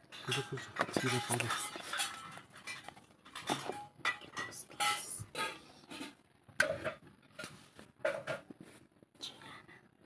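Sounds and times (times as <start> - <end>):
kitchen utensils clinking: 0.0 - 8.5.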